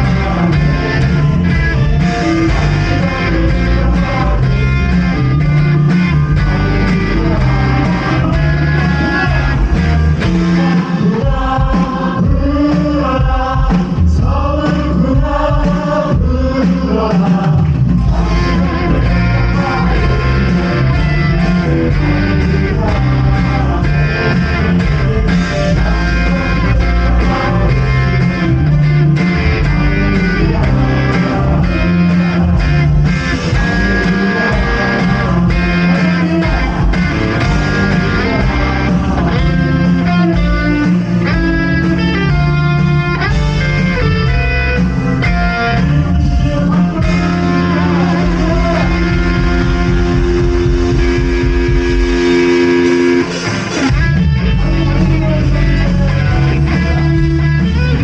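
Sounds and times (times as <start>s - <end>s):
band playing instrumental: 0.0s - 58.0s
electric guitar: 0.0s - 58.0s.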